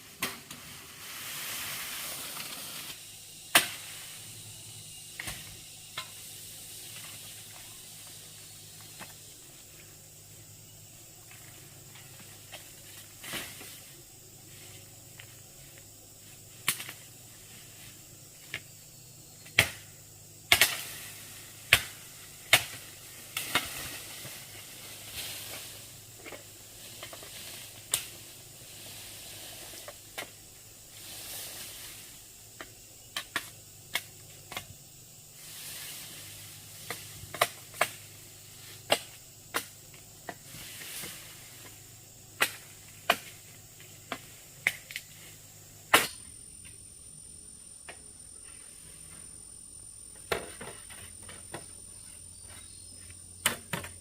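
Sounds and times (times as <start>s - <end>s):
scraping hiss-like noise: 0.0s - 54.0s.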